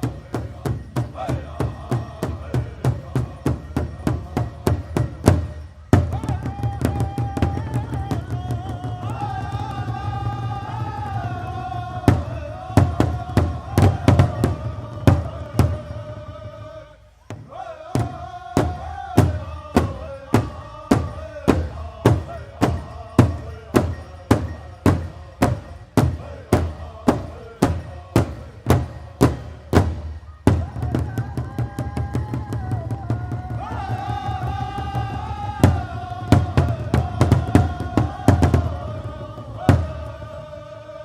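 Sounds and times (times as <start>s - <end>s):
large drum beats in unison: 0.0s - 16.5s, 17.3s - 40.4s
group singing a chant: 0.0s - 41.0s.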